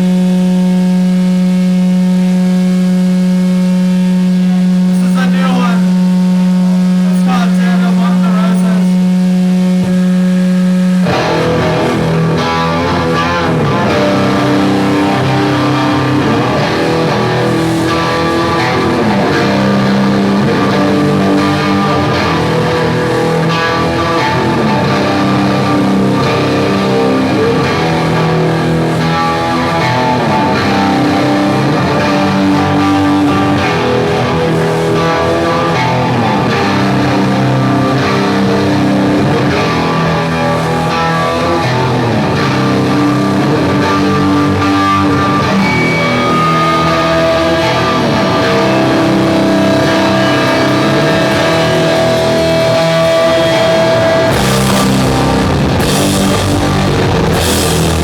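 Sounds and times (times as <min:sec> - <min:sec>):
live metal band playing: 0:03.0 - 0:58.0.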